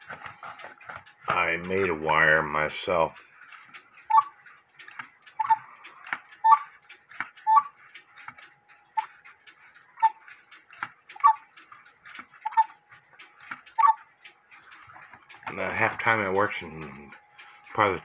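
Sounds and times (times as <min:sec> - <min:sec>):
clock ticking with metallic ring: 0:00.0 - 0:18.0.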